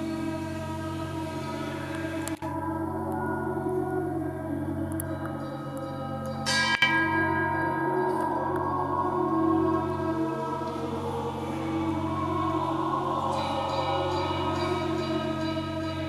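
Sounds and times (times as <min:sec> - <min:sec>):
ambient drone music: 0:00.0 - 0:16.0.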